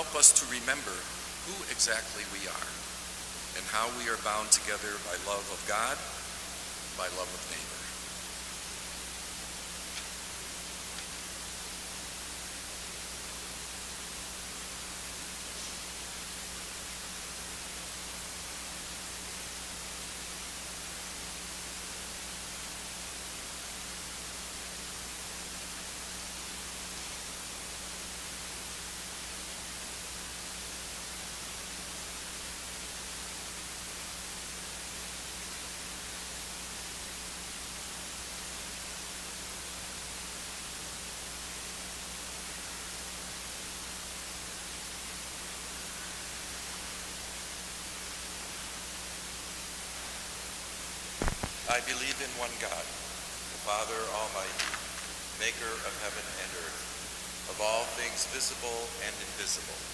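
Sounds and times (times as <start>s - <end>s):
low electrical hum: 0.0s - 59.9s
steady hiss: 0.0s - 59.9s.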